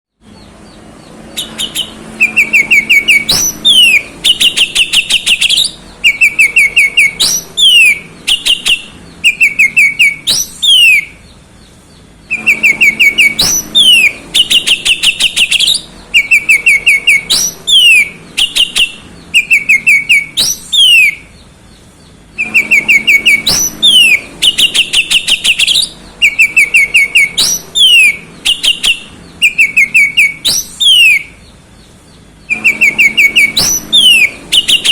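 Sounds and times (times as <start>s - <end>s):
bird singing whistles and trills: 0.3s - 34.9s.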